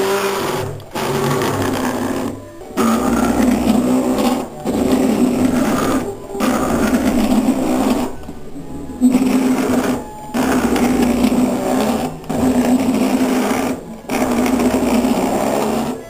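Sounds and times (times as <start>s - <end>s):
wiper motor whirring: 0.0s - 16.0s.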